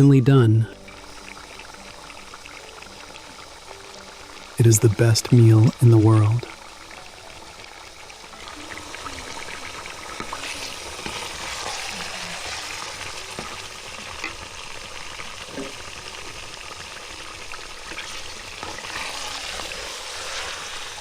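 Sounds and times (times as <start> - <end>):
food sizzling in a hot pan: 0.7 - 21.0.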